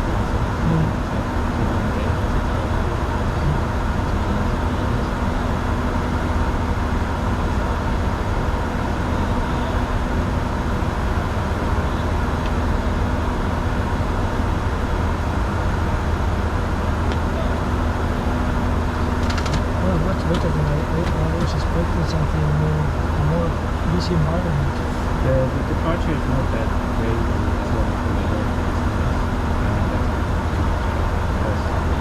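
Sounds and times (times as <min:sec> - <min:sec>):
jet cockpit engine hum: 0:00.0 - 0:32.0.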